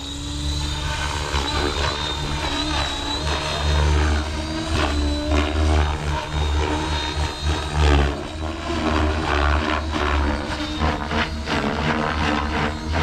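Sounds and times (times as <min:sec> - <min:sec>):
electric motor high whine: 0:00.0 - 0:13.0
rotor low rumble: 0:00.0 - 0:13.0.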